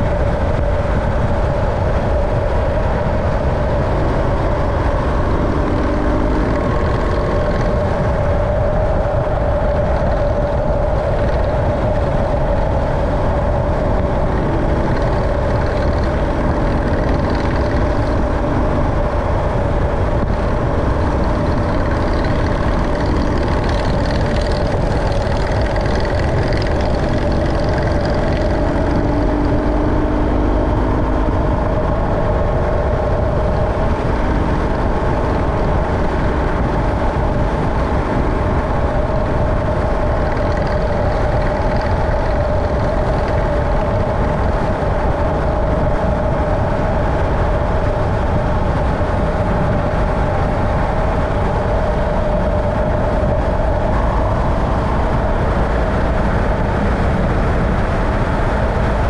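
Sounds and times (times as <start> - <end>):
vehicle running noise: 0.0 - 59.0.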